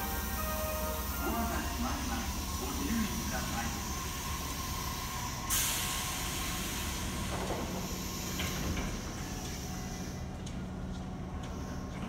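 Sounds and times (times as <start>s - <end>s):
loud hiss: 0.0s - 10.2s
electric train slowing: 0.0s - 12.0s
train motor hum: 0.0s - 12.0s.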